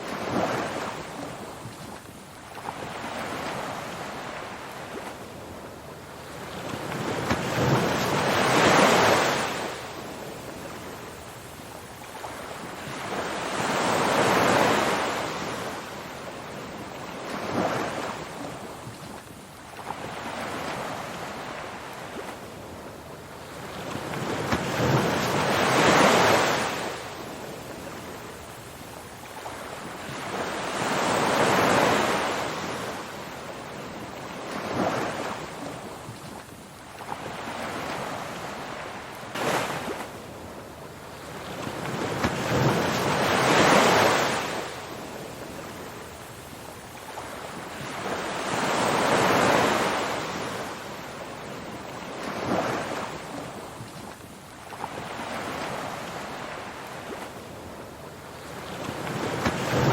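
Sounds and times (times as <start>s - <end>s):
ocean waves on shore: 0.0s - 59.9s.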